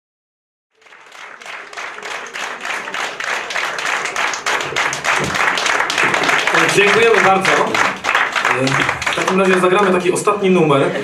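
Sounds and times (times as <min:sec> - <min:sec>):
audience applauding: 0:00.7 - 0:10.6.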